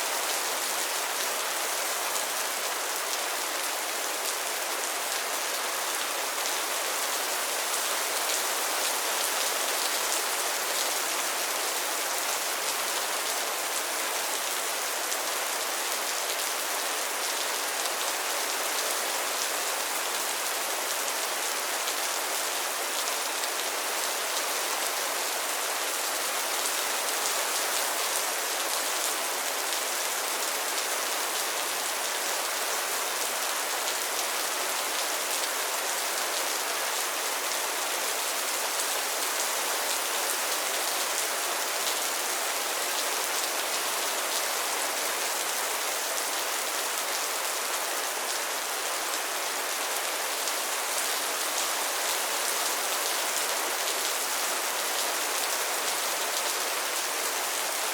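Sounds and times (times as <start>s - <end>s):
rain falling on a pond: 0.0s - 57.9s.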